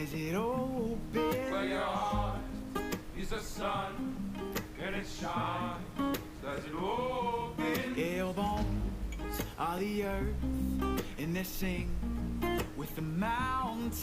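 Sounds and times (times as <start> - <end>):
person singing: 0.0 - 12.0, 12.6 - 14.0
acoustic guitar strumming: 0.0 - 14.0.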